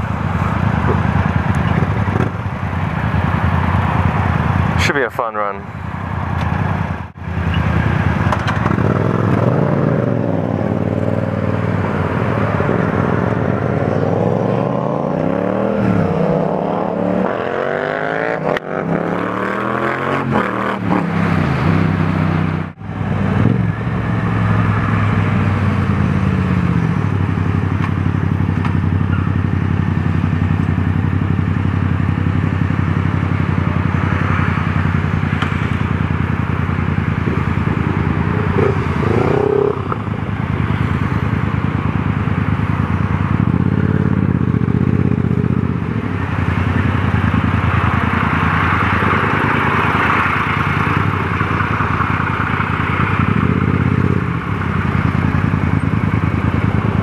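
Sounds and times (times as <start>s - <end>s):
motorcycle engine accelerating: 0.0s - 4.8s, 6.4s - 57.0s.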